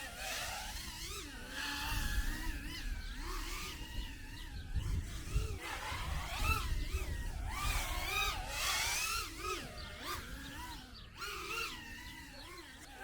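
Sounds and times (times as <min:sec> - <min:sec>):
small electric motors whining: 0:00.0 - 0:13.0.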